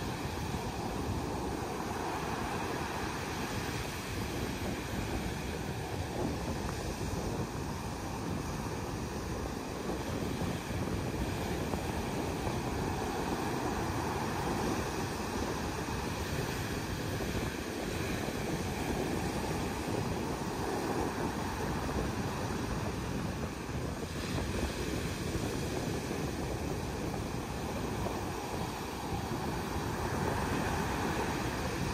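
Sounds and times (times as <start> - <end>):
waves breaking on beach: 0.0 - 31.9.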